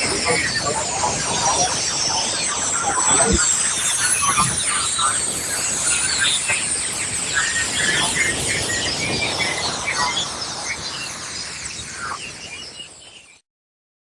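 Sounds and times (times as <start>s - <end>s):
dense radio hiss with chirps: 0.0s - 13.4s.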